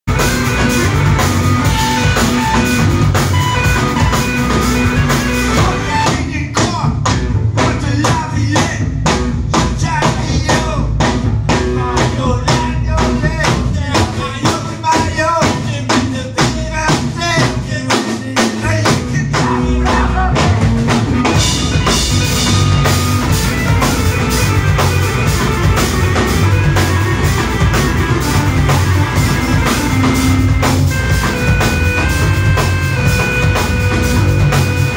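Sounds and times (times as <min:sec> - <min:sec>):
live band playing: 0:00.0 - 0:34.9
steady drum beat: 0:00.0 - 0:34.9.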